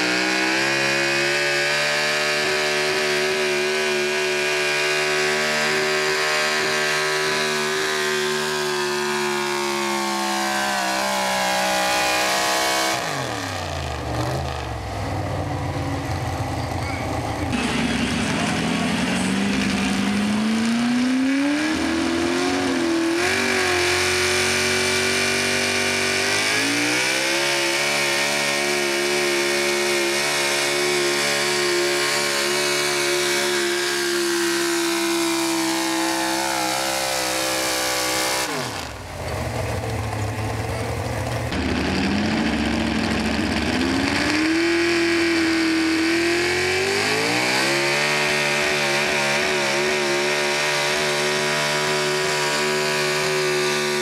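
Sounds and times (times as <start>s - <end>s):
pulling truck engine revving: 0.0s - 54.0s.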